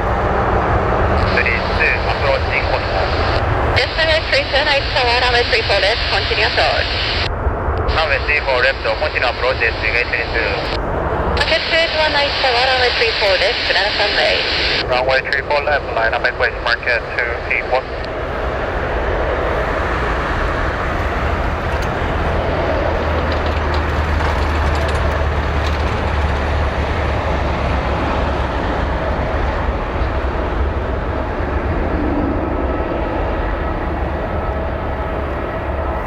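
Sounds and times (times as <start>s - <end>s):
jet airliner rushing roar: 0.0s - 36.0s.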